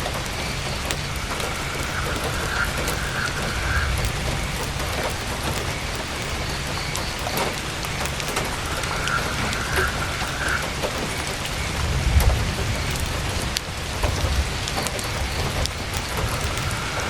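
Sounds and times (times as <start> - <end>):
campfire crackling: 0.0 - 17.0
heavy rain on tent canvas: 0.0 - 17.0.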